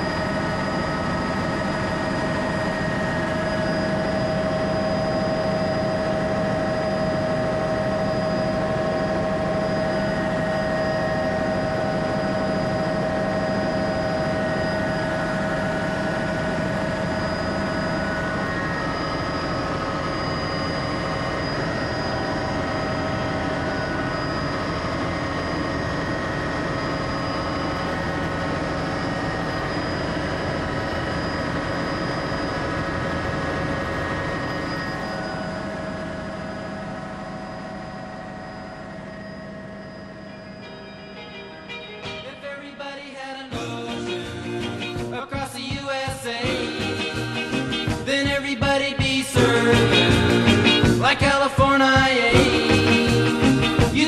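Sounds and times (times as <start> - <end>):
helicopter cabin rotor noise: 0.0 - 42.3, 43.5 - 54.0.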